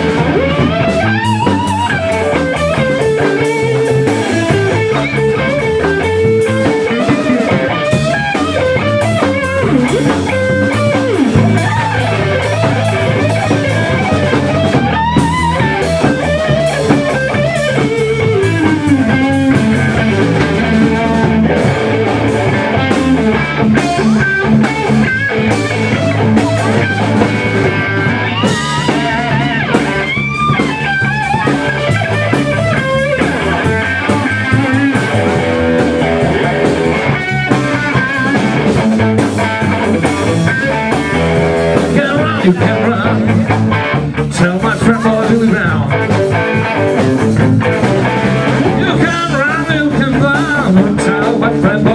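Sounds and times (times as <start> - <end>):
bass guitar: 0.0 - 51.9
drum kit: 0.0 - 51.9
electric guitar lead: 0.0 - 51.9.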